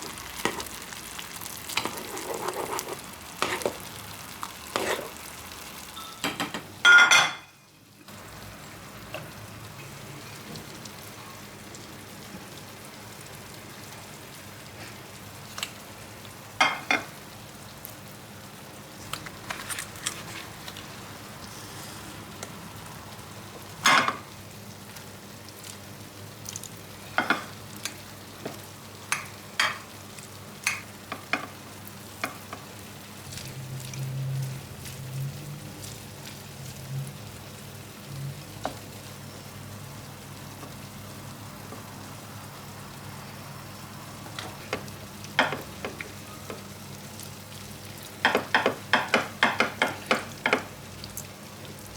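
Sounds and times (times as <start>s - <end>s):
food sizzling in a pan: 0.0s - 19.5s, 20.4s - 51.9s.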